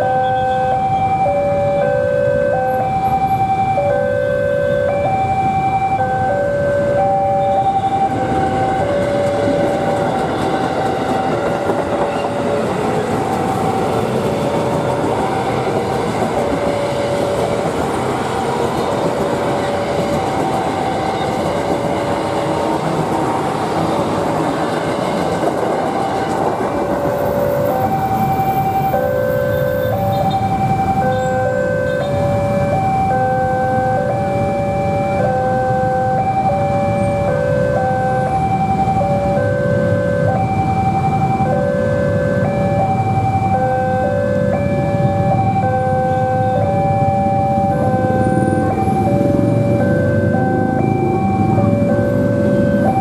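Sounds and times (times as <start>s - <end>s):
heavy vehicle rumble: 0.8s - 53.0s.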